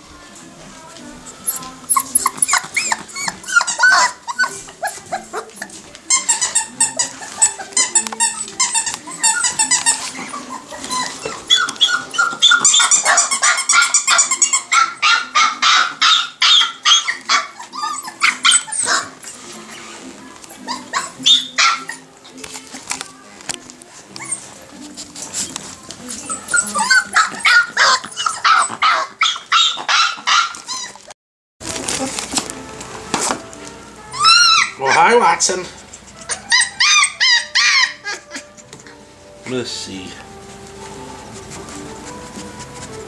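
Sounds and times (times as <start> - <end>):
background music: 0.0 - 30.9, 31.6 - 43.0
puppies yipping and barking: 1.2 - 31.1, 34.0 - 39.6, 40.3 - 43.0.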